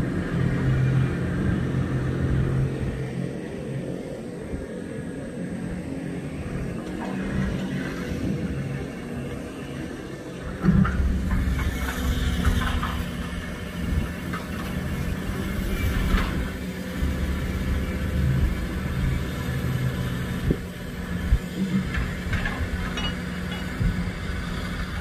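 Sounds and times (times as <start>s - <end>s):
excavator diesel engine droning: 0.0s - 25.0s.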